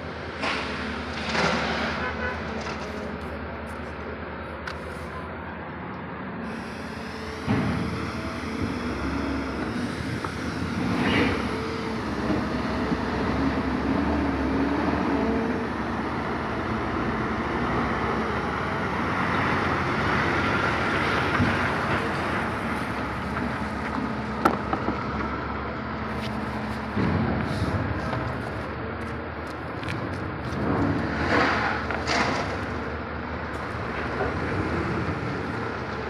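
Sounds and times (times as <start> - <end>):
diesel engines running: 0.0 - 36.0
truck driving past: 0.0 - 36.0.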